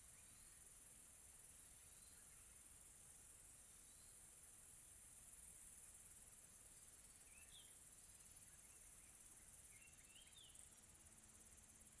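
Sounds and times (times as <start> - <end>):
crickets chorus: 0.0 - 12.0.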